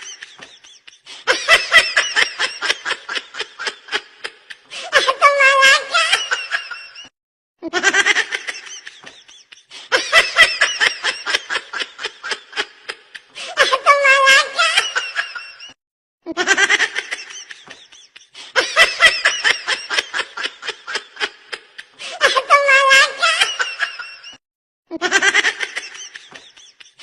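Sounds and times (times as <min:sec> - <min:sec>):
baby laughing: 0:00.0 - 0:07.0, 0:07.6 - 0:15.7, 0:16.3 - 0:24.3.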